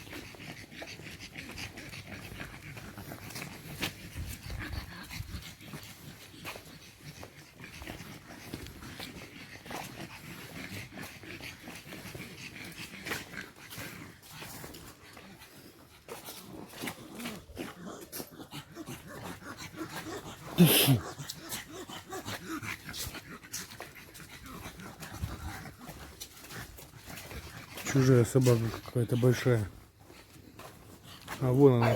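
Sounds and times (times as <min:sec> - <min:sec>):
dog panting: 0:00.0 - 0:31.9.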